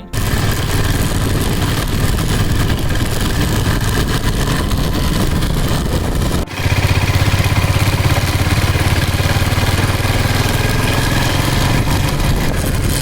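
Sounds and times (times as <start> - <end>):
motorcycle engine running: 0.0 - 13.0
drive chain turning: 0.1 - 13.0.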